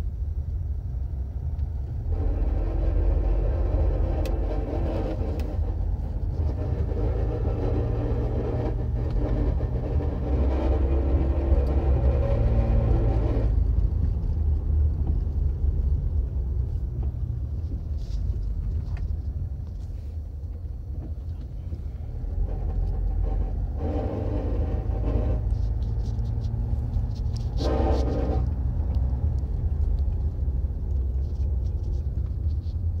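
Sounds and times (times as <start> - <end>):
car cabin low rumble: 0.0 - 33.0.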